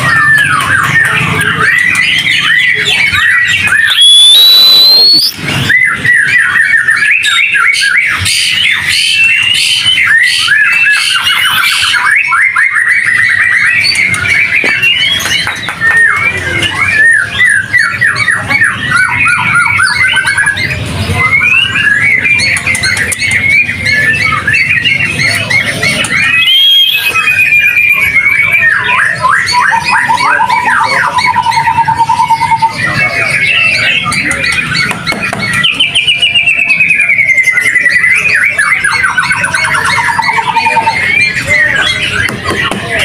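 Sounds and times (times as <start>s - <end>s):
birds singing chirps and trills: 0.0s - 43.0s.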